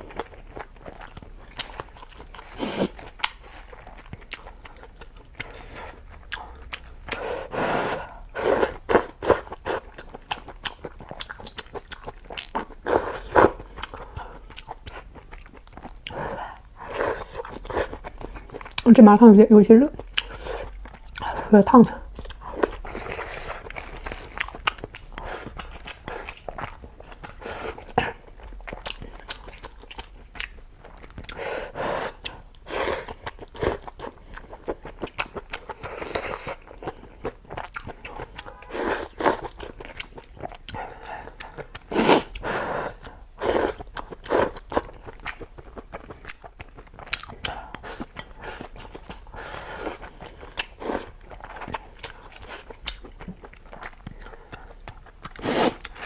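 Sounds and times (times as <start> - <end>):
chewing and slurping: 0.0 - 18.9, 19.9 - 56.0.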